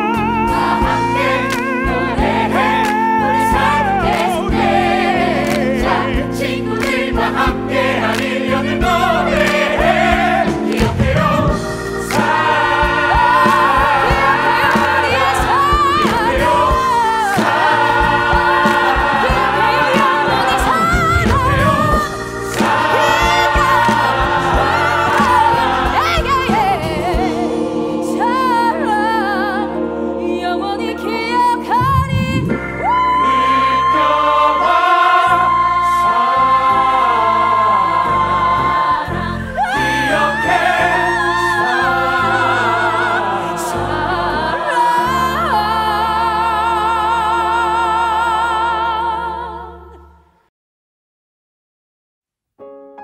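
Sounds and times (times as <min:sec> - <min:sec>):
instrumental accompaniment: 0:00.0 - 0:48.8
choir singing gospel-style song: 0:00.0 - 0:50.2.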